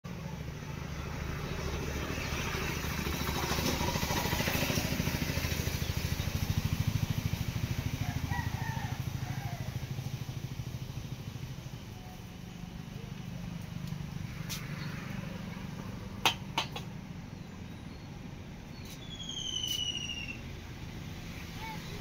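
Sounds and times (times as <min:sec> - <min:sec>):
small engine passing by: 0:00.1 - 0:22.0.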